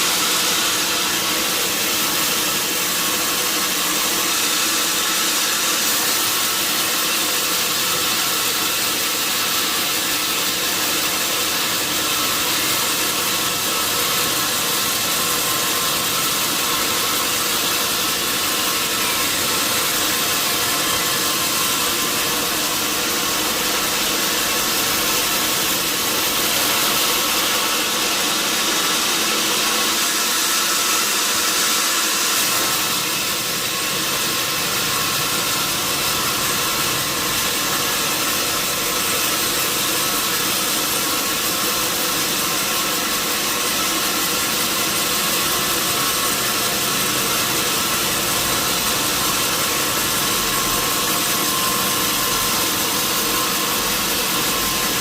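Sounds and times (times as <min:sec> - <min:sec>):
sawmill motor drone: 0:00.0 - 0:55.0.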